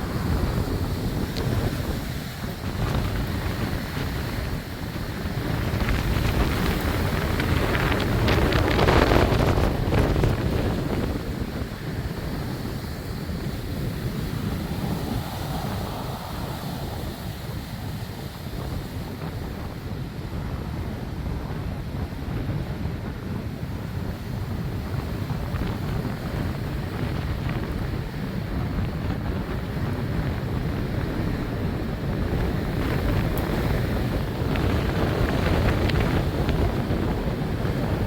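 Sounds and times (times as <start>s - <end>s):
gusty wind buffeting microphone: 0.0s - 38.0s.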